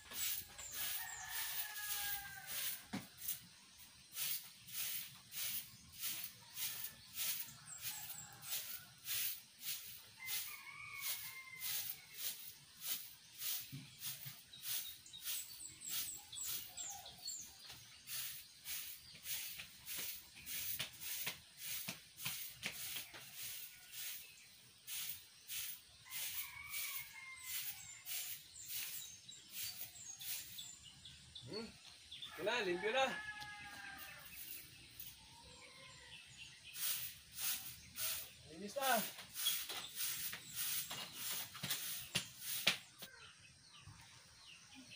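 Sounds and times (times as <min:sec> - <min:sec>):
stick broom sweeping grass: 0:00.0 - 0:30.8, 0:34.0 - 0:35.2, 0:36.7 - 0:43.1.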